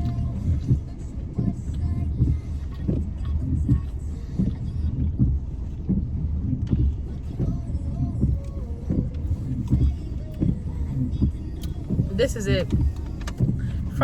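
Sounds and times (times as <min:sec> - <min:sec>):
road rumble in car: 0:00.0 - 0:14.0
low thumps: 0:02.2 - 0:14.0.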